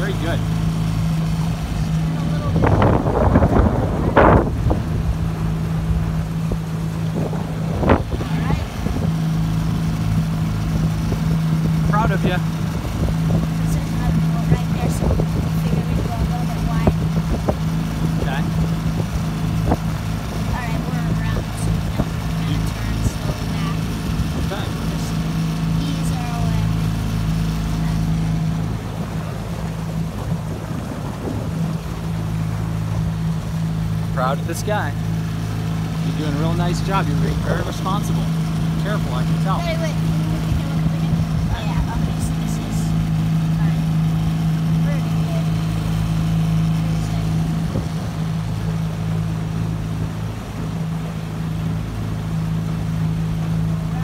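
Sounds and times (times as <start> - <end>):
outboard motor humming: 0.0 - 54.0
rushing water: 0.0 - 54.0
wind: 0.0 - 54.0.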